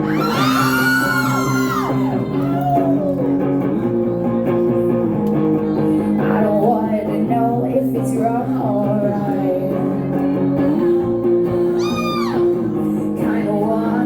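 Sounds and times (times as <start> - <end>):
guitar strumming chords: 0.0 - 14.0
person singing: 0.0 - 14.0.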